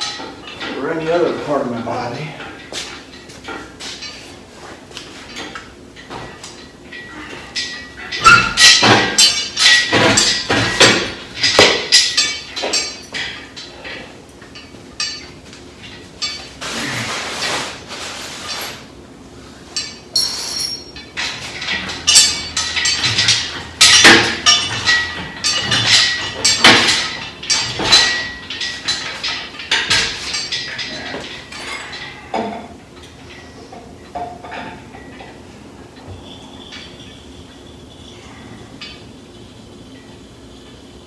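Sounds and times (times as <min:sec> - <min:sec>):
metal clanks and clinks: 0:00.0 - 0:18.9, 0:19.6 - 0:40.9.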